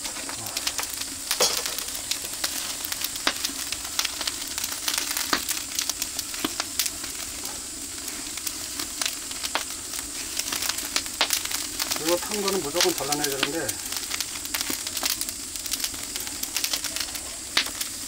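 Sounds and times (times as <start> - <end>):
meat sizzling on a grill: 0.0 - 18.0
wood fire crackling and popping: 0.0 - 18.0.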